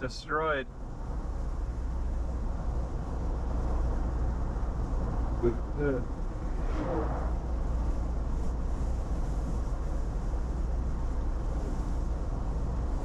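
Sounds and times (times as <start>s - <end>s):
car tyres and engine rumble: 0.0s - 13.0s.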